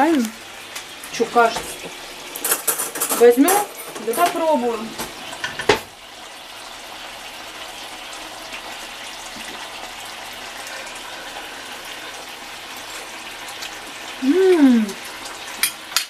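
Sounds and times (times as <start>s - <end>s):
kelp sizzling in pan: 0.0s - 16.0s.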